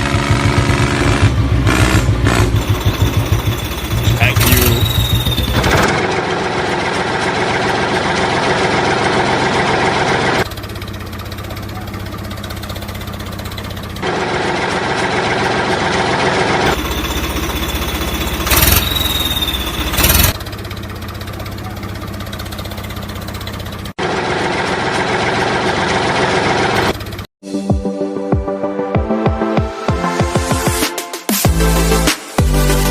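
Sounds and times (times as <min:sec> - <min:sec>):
vehicle engine idling: 0:00.0 - 0:27.3.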